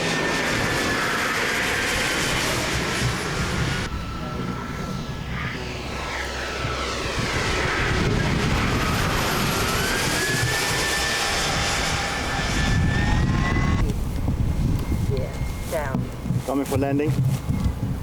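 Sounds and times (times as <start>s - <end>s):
model airplane engines whining: 0.0s - 18.0s.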